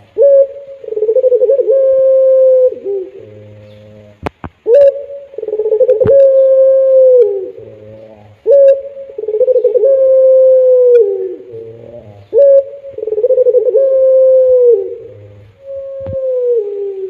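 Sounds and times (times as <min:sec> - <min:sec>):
turtle dove cooing: 0:00.0 - 0:17.0.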